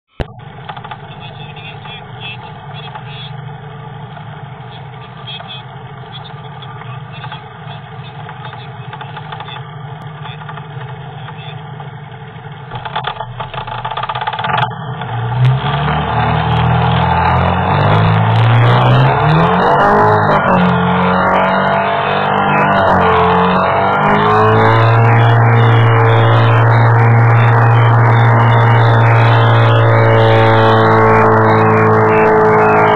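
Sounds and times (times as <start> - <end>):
speedboat engine: 0.1 - 32.9.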